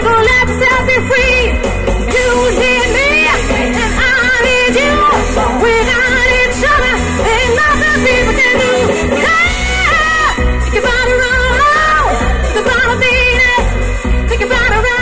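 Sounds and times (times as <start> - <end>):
backing track with bass beat: 0.0 - 15.0
woman singing pop song: 0.0 - 15.0.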